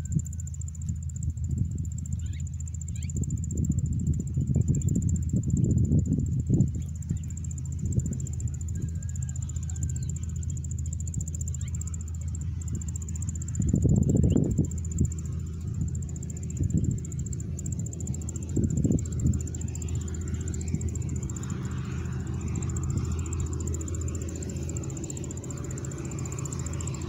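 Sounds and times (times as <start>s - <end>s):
insects chirring: 0.0s - 27.0s
low uneven rumble: 0.0s - 27.0s.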